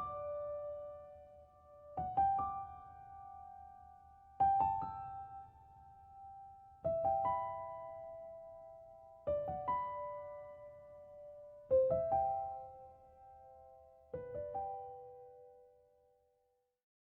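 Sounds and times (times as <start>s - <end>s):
soft piano chords: 0.0s - 16.3s.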